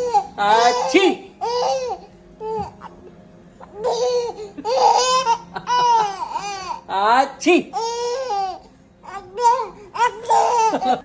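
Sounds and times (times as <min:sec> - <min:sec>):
baby laughing and squealing: 0:00.0 - 0:02.8, 0:03.8 - 0:06.8, 0:07.8 - 0:11.0.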